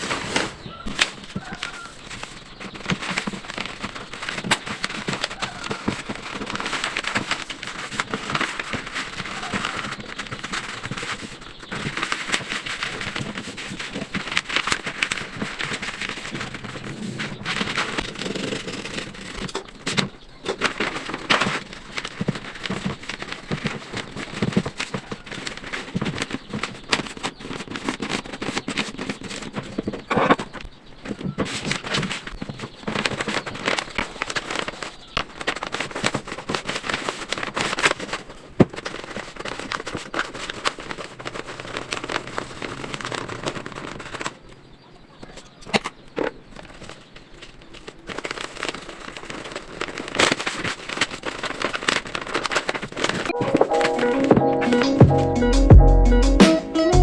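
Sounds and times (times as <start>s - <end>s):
packaging crinkling and rustling: 0.0s - 55.1s.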